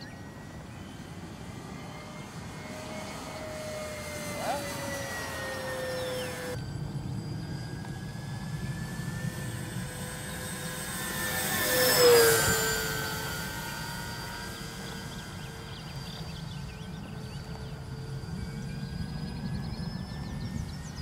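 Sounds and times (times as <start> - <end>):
model plane motors whining: 0.0 - 21.0.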